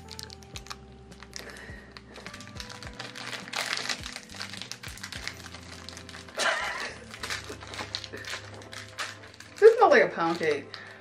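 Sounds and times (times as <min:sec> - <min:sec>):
background music: 0:00.0 - 0:11.0
plastic wrappers crinkling: 0:00.0 - 0:11.0.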